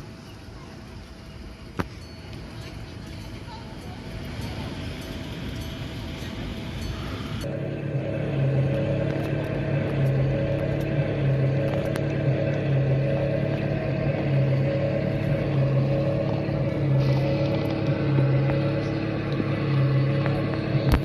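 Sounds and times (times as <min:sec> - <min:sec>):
engine-like mechanical drone: 0:00.0 - 0:21.0.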